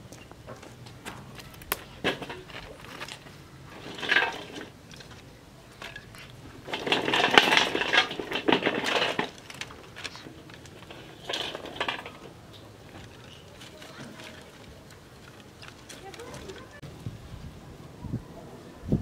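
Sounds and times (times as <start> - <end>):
sticks clattering against metal bowl: 1.5 - 16.8.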